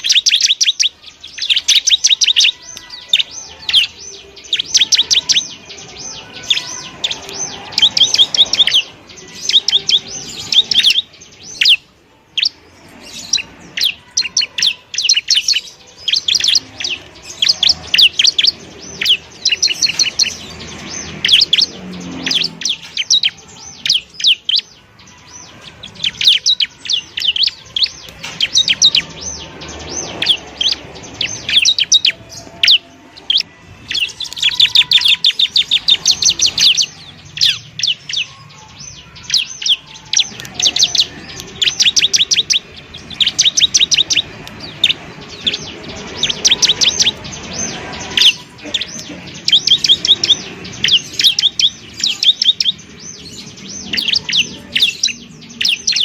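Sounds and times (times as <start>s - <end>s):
bird chirping rapidly: 0.0s - 56.0s.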